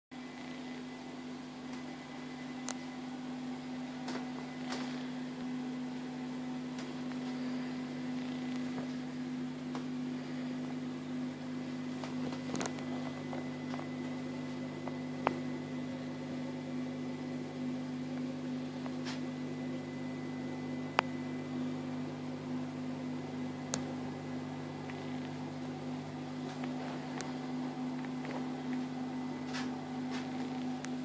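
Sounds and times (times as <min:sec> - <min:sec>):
aquarium pumps and fans humming: 0:00.1 - 0:31.0.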